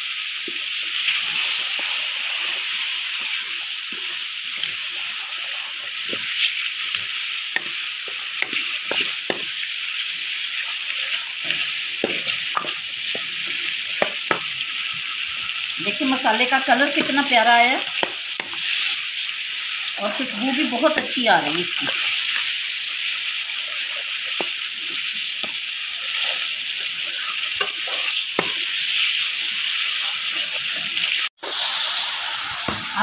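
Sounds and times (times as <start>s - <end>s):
potatoes sizzling in oil: 0.0s - 33.0s.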